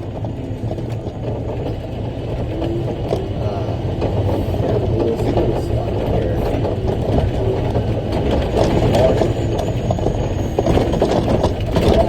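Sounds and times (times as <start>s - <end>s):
diesel truck engine running: 0.0s - 12.0s
truck body rattling and knocking: 0.0s - 12.0s.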